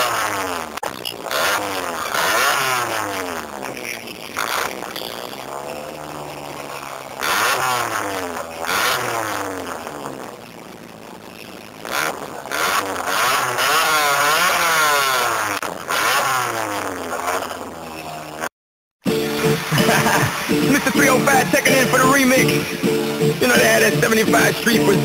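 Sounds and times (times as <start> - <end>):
car engine revving: 0.0 - 18.5, 19.1 - 25.0.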